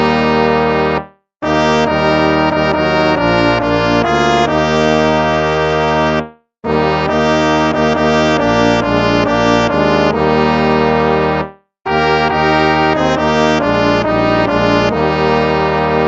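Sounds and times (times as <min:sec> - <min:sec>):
brass chords playing a hymn: 0:00.0 - 0:16.0.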